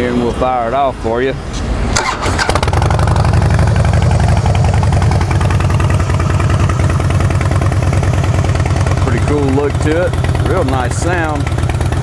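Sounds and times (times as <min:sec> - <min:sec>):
motorcycle engine idling: 0:02.0 - 0:12.0.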